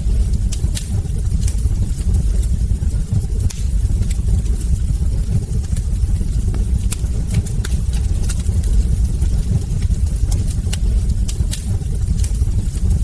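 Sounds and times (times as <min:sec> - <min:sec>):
burning logs crackling: 0:00.0 - 0:13.0
wood fire rumbling: 0:00.0 - 0:13.0.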